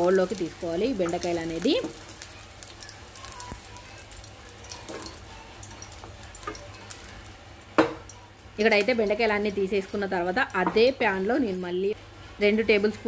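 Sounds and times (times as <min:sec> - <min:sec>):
hot oil sizzling: 0:00.0 - 0:11.9.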